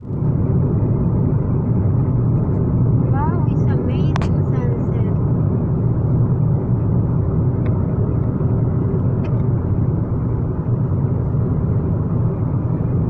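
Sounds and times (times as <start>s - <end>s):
moving car rumble: 0.0s - 13.0s.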